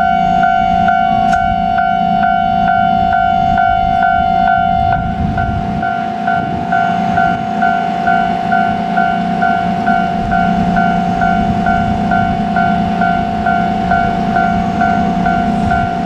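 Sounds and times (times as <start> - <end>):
level crossing bell ringing: 0.0 - 16.0
low rumble: 0.0 - 16.0.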